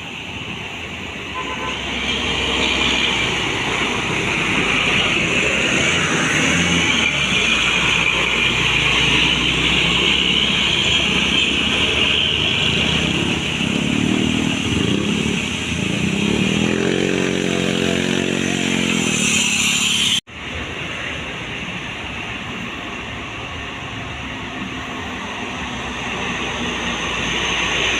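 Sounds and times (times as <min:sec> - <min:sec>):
bus engine running: 0:00.0 - 0:27.9
road and wind noise: 0:00.0 - 0:27.9.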